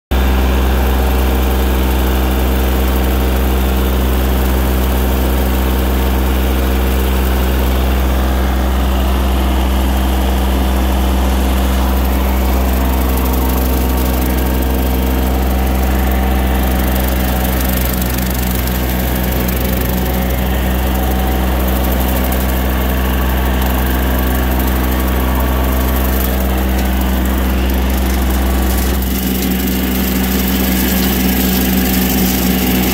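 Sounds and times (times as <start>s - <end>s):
tractor engine running: 0.1s - 32.9s
mower cutting grass: 0.2s - 32.9s.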